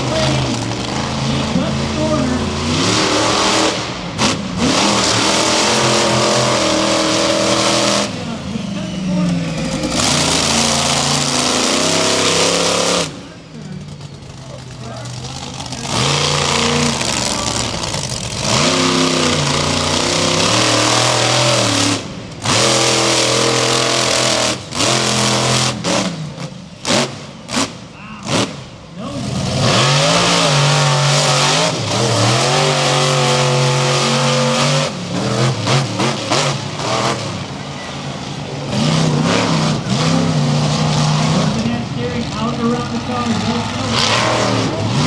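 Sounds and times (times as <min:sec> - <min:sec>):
monster truck engine revving: 0:00.0 - 0:45.0.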